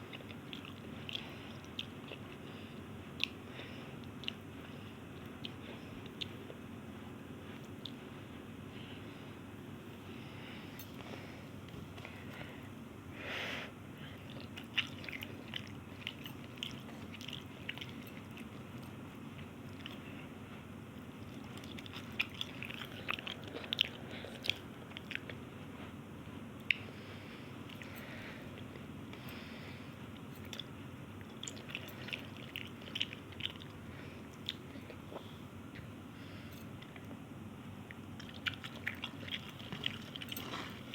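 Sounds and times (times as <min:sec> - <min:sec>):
person chewing noodles: 0:00.0 - 0:09.1, 0:14.0 - 0:26.0, 0:26.6 - 0:37.2, 0:37.8 - 0:40.9
steady low hum: 0:00.0 - 0:40.9.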